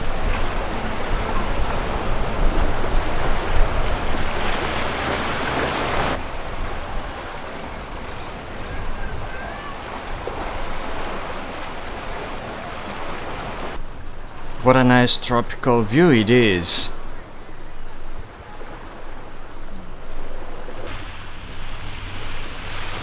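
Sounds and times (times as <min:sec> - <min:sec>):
sea waves against a seawall: 0:00.0 - 0:14.6, 0:15.6 - 0:23.0.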